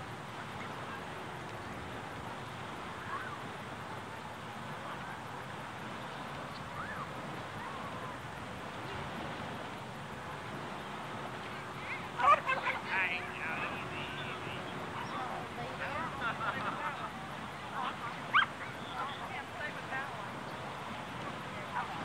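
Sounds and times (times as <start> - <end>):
faint distant calls: 0.0 - 22.0
small waves washing onto sand: 0.0 - 22.0
wind hiss: 0.0 - 22.0.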